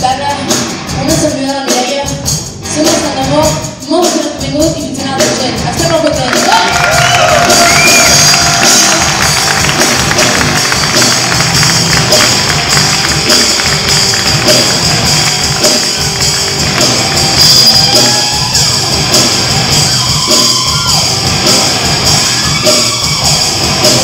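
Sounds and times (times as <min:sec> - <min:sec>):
drums keeping a steady beat: 0:00.0 - 0:24.0
live rock band playing: 0:00.0 - 0:24.0.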